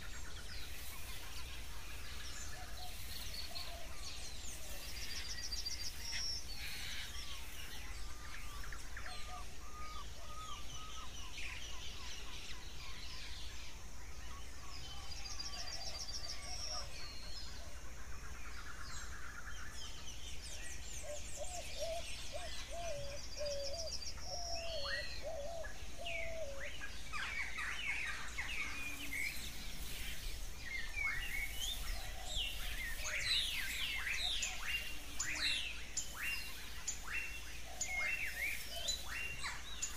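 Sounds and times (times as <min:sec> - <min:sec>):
faint hiss: 0:00.0 - 0:17.1, 0:18.2 - 0:39.9
birds singing and chirping: 0:00.0 - 0:39.9.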